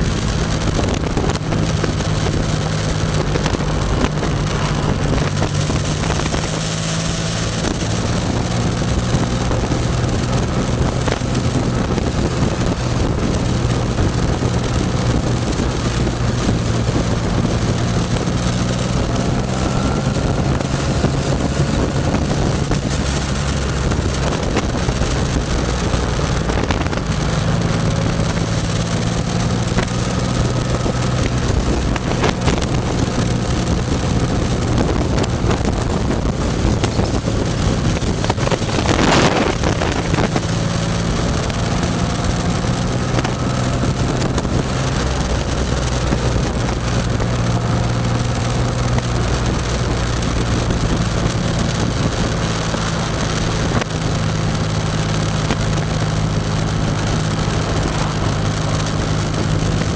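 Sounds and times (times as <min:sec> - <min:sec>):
loud whoosh of air: 0:00.0 - 0:59.9
motorcycle engine running: 0:00.0 - 0:59.9
wind rushing over microphone: 0:00.0 - 0:59.9.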